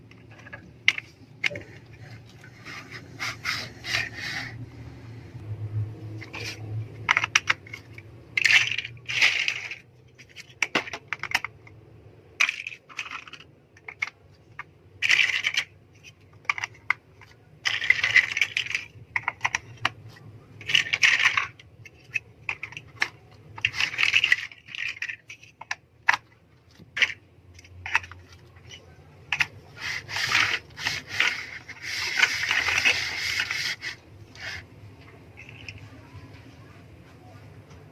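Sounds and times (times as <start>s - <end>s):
plastic bricks clicking and clattering: 0.0s - 4.6s, 6.0s - 36.1s.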